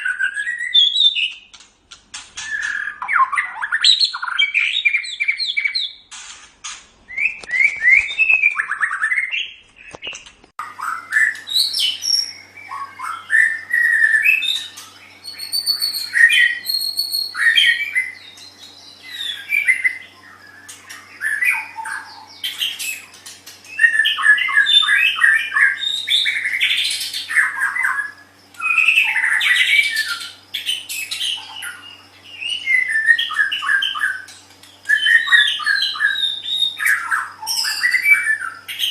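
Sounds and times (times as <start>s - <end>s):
songbird singing whistles and trills: 0.0s - 1.5s, 2.4s - 6.1s, 7.1s - 38.9s
faint steady hum: 0.0s - 38.9s.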